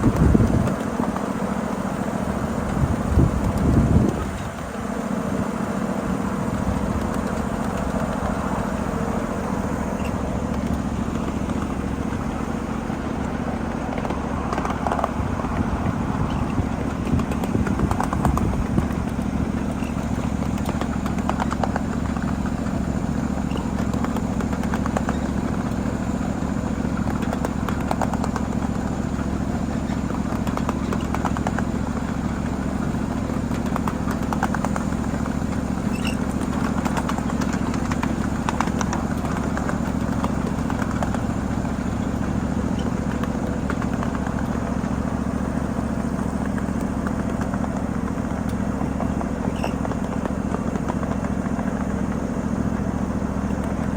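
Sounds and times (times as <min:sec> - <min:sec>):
miniature train running on track: 0:00.0 - 0:53.9.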